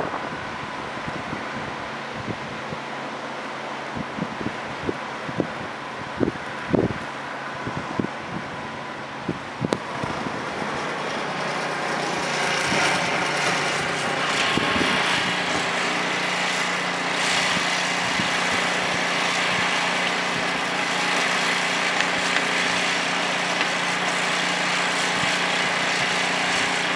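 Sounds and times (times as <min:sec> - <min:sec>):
wind gusts on microphone: 0:00.0 - 0:03.0, 0:03.7 - 0:26.9
engine-like hum: 0:00.0 - 0:26.9
hiss of wind and blowing snow: 0:03.8 - 0:26.9.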